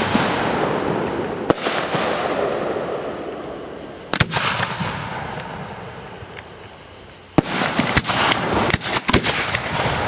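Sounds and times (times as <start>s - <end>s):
firework bangs: 0.0s - 6.4s, 7.4s - 10.0s
firework crackles: 0.0s - 6.6s, 7.4s - 10.0s.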